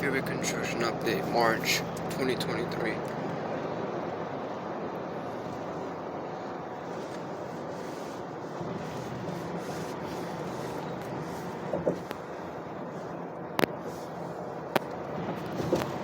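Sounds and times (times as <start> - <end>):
freeway traffic rushing: 0.0 - 16.0.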